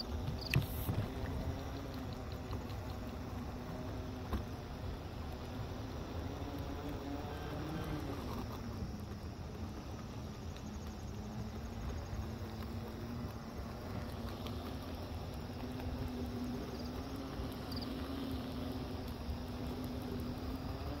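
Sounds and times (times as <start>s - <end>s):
hoverboard motors humming: 0.0s - 21.0s
small wheels rumbling on concrete: 0.0s - 21.0s.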